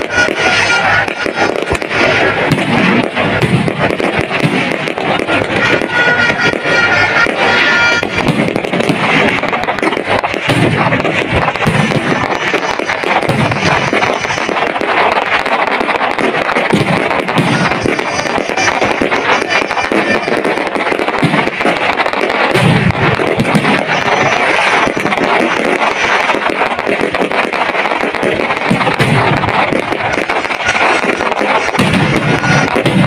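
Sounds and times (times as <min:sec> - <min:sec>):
fireworks crackling and popping: 0:00.0 - 0:33.0
low firework booms: 0:00.0 - 0:33.0.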